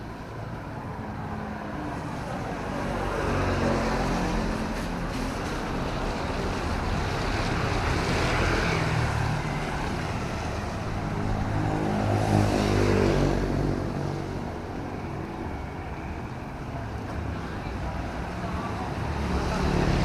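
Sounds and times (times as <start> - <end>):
traffic passing on wet road: 0.0 - 20.0.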